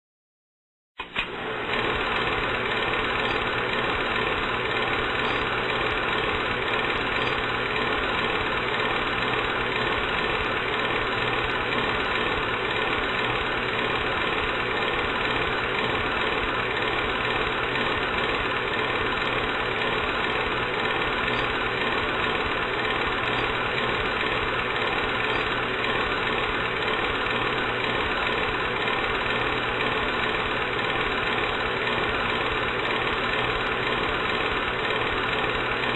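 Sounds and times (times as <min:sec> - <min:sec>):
film projector whirring and clattering: 0:01.0 - 0:35.9.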